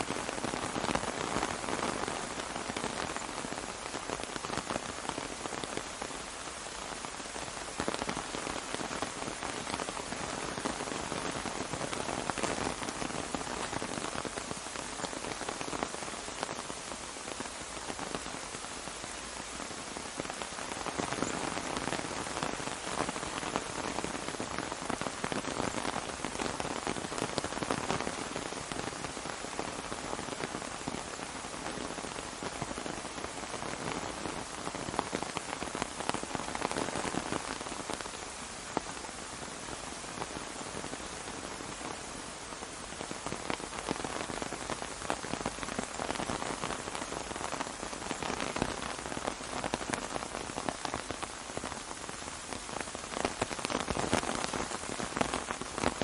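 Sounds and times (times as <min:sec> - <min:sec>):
rain on an umbrella: 0:00.0 - 0:56.0.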